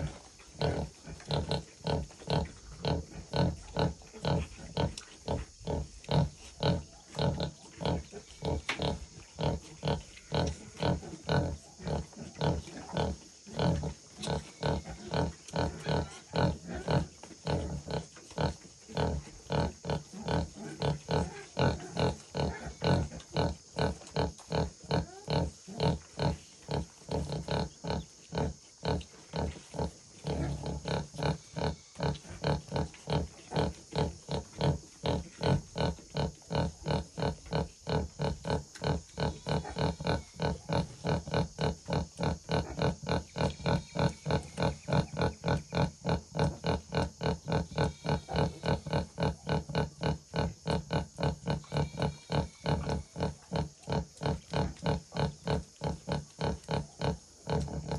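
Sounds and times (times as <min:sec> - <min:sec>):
sow grunting: 0:00.0 - 0:57.9.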